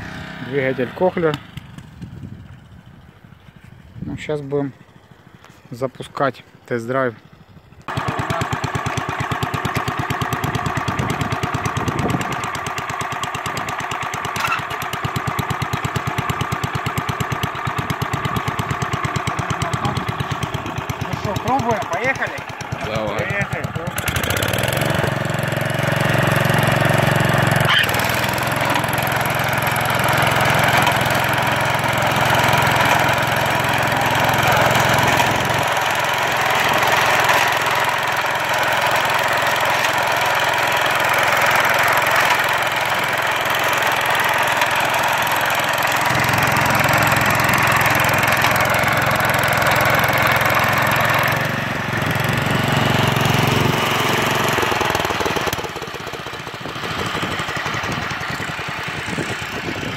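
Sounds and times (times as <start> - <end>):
sod cutter engine running: 6.9 - 59.9.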